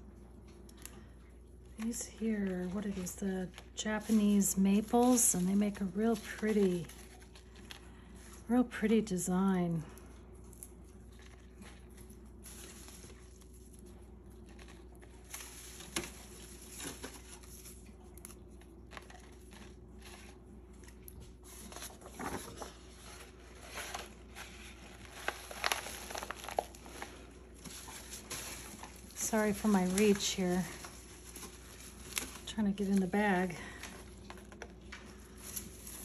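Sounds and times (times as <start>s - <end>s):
leaves and paper rustling: 1.8s - 8.6s, 10.5s - 36.0s.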